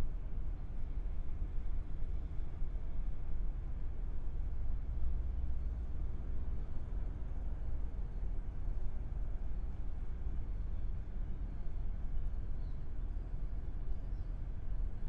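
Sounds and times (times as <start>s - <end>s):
low harbor rumble: 0.0s - 15.0s.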